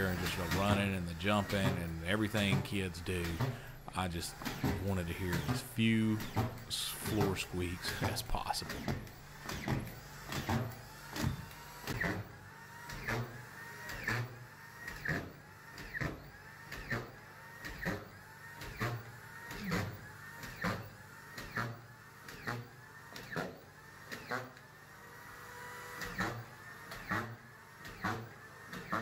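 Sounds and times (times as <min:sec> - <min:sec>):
screw gun whirring and clicking: 0:00.0 - 0:29.0.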